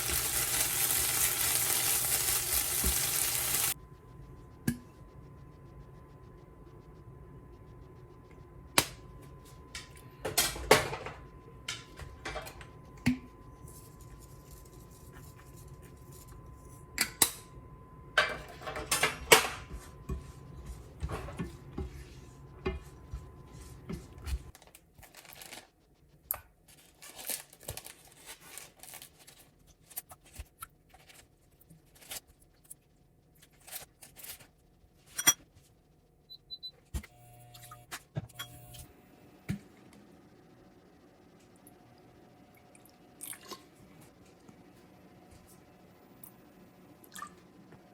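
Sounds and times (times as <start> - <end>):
low steady hum: 0.0 - 24.6, 31.8 - 47.9.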